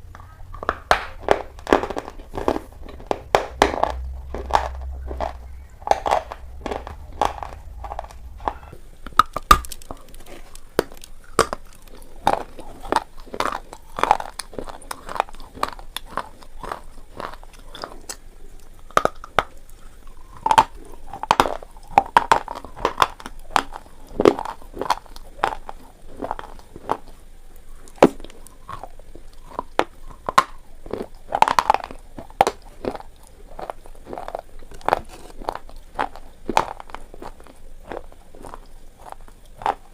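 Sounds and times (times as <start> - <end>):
slate pencils being chewed: 0.2 - 39.9.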